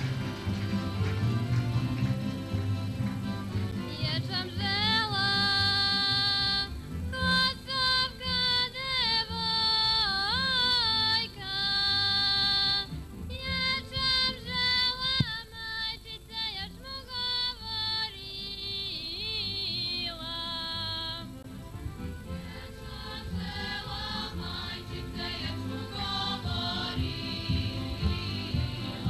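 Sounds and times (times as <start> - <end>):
soft low accompaniment: 0.0 - 29.0
woman singing folk song: 2.2 - 29.0.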